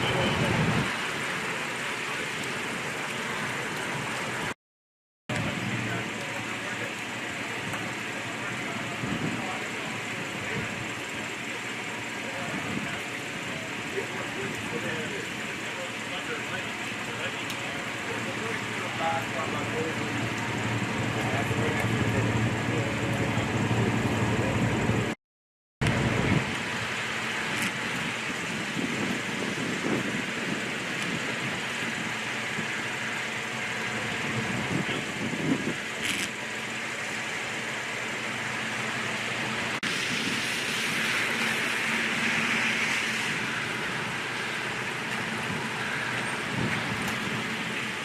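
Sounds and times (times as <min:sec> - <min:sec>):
steady rumbling noise: 0:00.0 - 0:04.6, 0:05.3 - 0:25.2, 0:25.8 - 0:48.0
storm rain and wind: 0:00.0 - 0:04.6, 0:05.3 - 0:25.2, 0:25.8 - 0:48.0.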